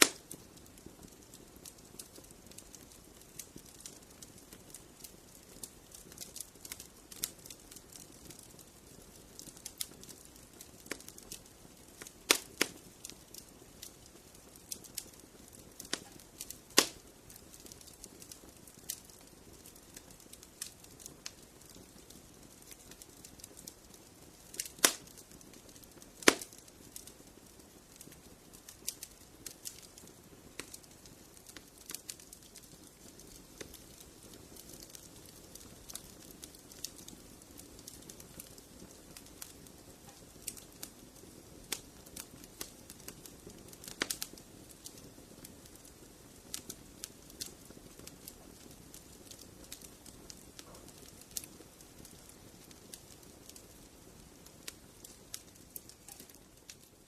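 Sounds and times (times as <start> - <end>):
faint low hiss: 0.0 - 57.0
wood fire crackling: 0.0 - 57.0.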